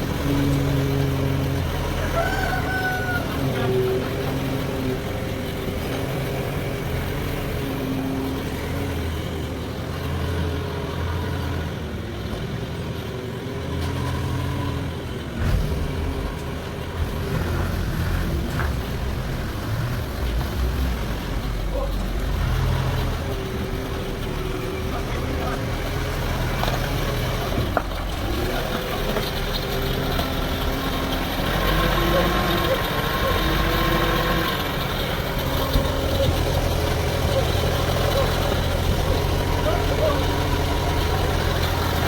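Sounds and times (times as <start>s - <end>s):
sawmill machinery humming: 0.0s - 42.0s.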